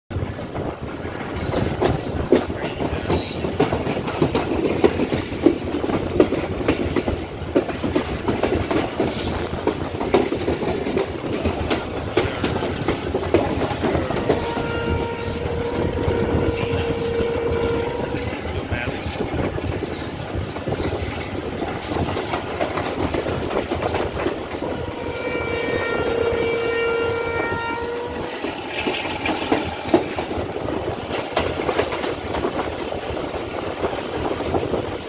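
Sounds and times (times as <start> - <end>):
train rumble and rush: 0.1 - 35.0.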